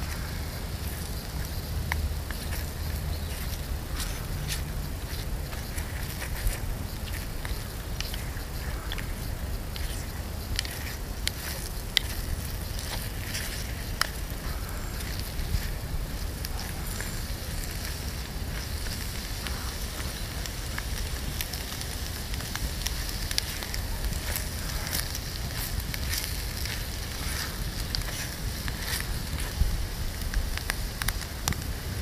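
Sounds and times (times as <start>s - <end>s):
sharp ticks: 0.0s - 31.7s
bacon and eggs sizzling: 0.0s - 32.0s
wind rumble on microphone: 0.0s - 32.0s
wood fire crackling: 0.0s - 32.0s
spoon stirring a pan: 0.8s - 21.0s, 21.6s - 29.6s.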